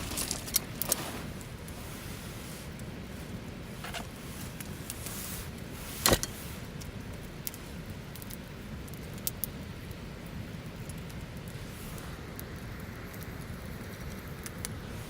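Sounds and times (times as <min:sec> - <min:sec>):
campfire burning and crackling: 0:00.0 - 0:15.0.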